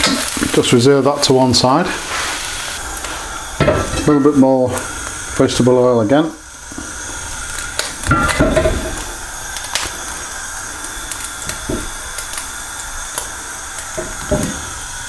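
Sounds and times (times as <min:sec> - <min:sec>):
gas burner hissing: 0:00.0 - 0:15.0.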